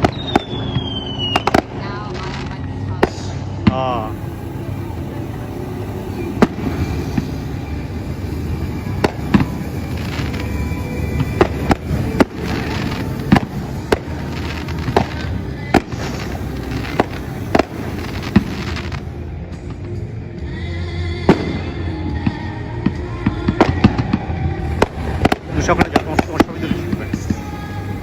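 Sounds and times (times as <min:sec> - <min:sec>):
fireworks bursting: 0:00.0 - 0:20.2, 0:21.2 - 0:28.0
music playing: 0:00.0 - 0:28.0.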